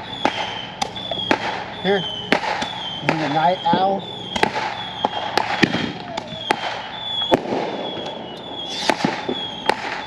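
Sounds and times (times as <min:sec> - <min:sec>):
fireworks bangs and pops: 0:00.0 - 0:10.0
thin high whistle: 0:00.0 - 0:10.0.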